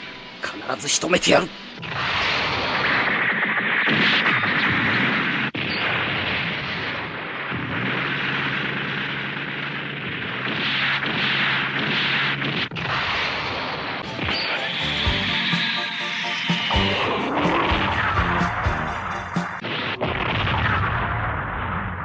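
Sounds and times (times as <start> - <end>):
gunfire and explosions: 0.0 - 22.0.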